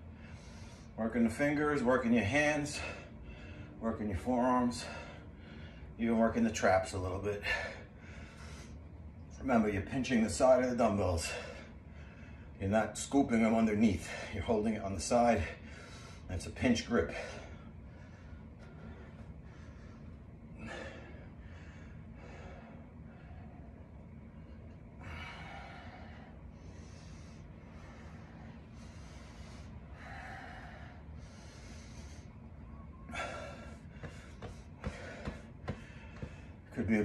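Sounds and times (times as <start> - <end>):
man breathing heavily: 0.0 - 9.3, 10.0 - 12.6, 13.5 - 36.8.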